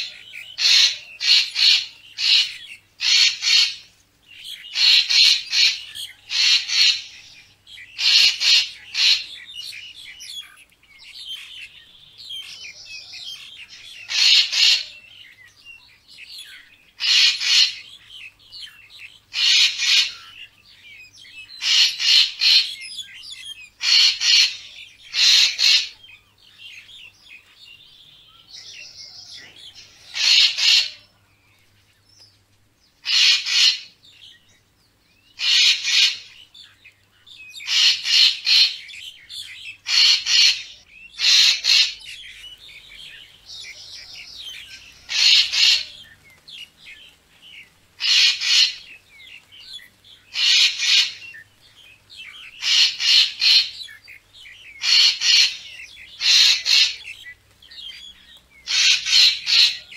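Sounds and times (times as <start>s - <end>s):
bird harsh calls: 0.0s - 59.9s.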